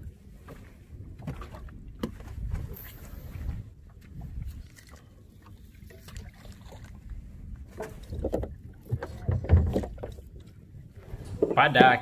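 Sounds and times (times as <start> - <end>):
low wind rumble: 0.0 - 12.0
water slapping boat hull: 0.0 - 12.0.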